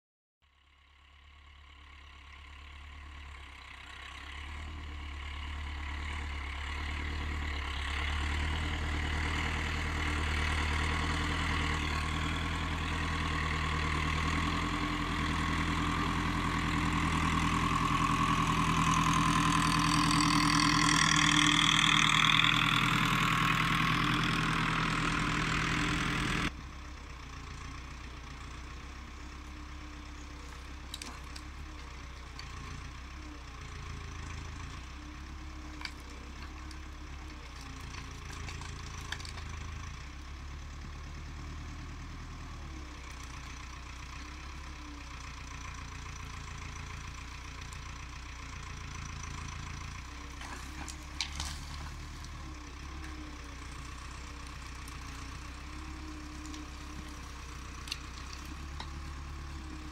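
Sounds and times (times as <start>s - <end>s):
tractor diesel engine running: 0.4s - 59.9s.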